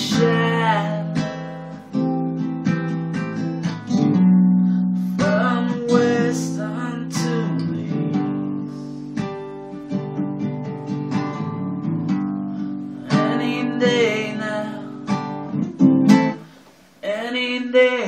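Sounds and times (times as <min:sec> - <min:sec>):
acoustic guitar strummed: 0:00.0 - 0:18.0.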